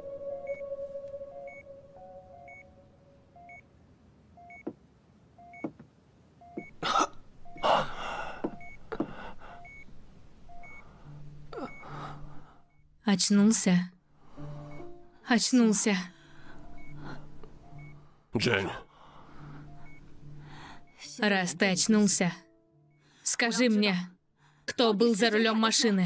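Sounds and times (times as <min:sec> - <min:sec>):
patient monitor beeping: 0:00.1 - 0:03.7, 0:04.4 - 0:04.8, 0:05.4 - 0:05.8, 0:06.4 - 0:13.6, 0:14.4 - 0:23.9.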